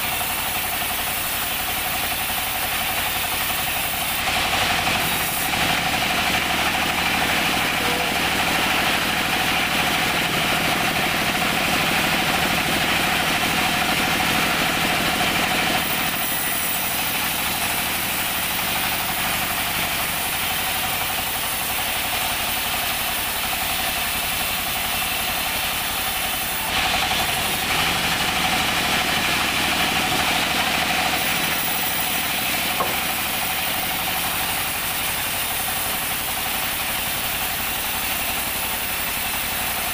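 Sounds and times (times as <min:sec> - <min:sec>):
saw blade rasping through log: 0:00.0 - 0:39.9
sawmill machine hum: 0:00.0 - 0:39.9.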